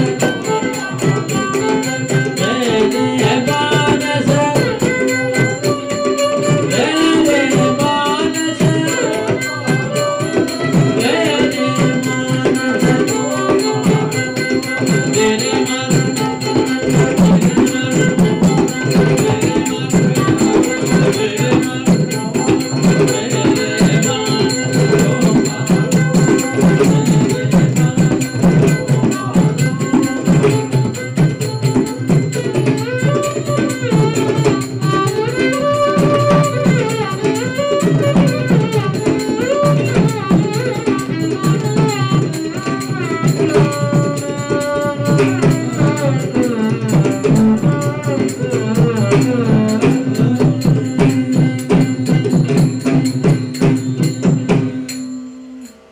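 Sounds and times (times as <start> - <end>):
hand drum playing: 0.0 - 55.9
small hand cymbals: 0.0 - 55.9
violin melody: 0.0 - 55.9.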